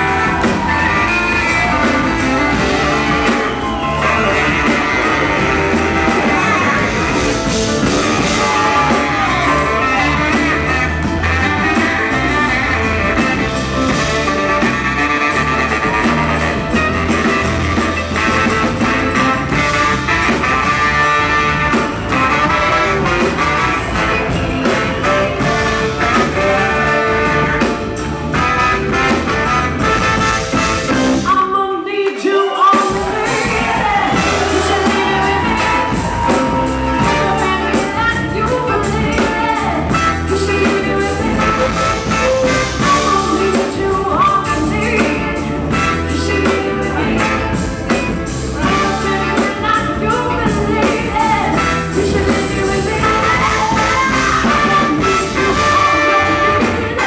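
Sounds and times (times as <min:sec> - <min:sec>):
lead singer singing: 0:00.0 - 0:29.1, 0:31.2 - 0:57.0
bass and drums groove: 0:00.0 - 0:31.4, 0:32.8 - 0:57.0
electric guitar: 0:00.0 - 0:32.0, 0:32.6 - 0:57.0.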